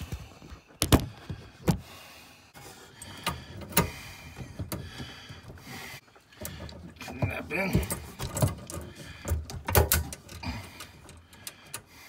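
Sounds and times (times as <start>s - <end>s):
sharp clicks and knocks: 0.0s - 1.8s, 2.9s - 11.9s.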